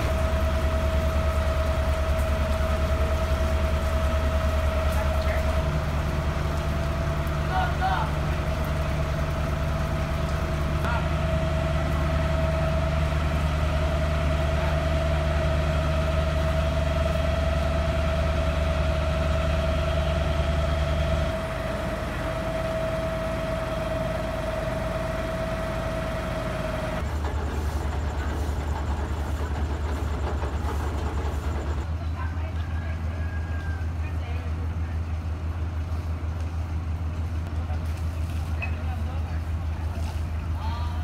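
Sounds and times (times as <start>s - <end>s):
heavy engine idling: 0.0s - 41.0s.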